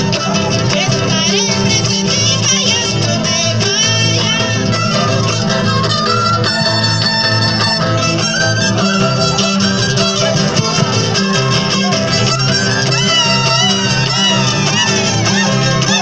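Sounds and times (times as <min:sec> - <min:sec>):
acoustic and electric guitars: 0:00.0 - 0:16.0
repeating bass line: 0:00.0 - 0:16.0.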